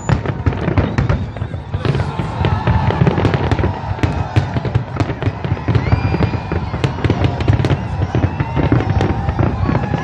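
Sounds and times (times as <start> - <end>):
fireworks cracking and popping: 0.0 - 10.0.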